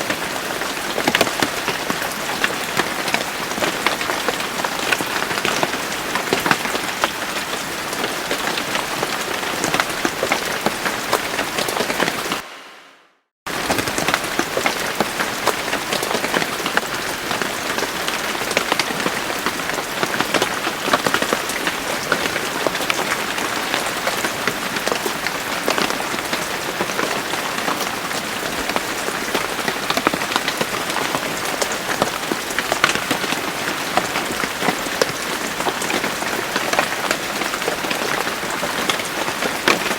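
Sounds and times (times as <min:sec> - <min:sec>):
steady rain falling: 0:00.0 - 0:12.8, 0:13.5 - 0:39.9.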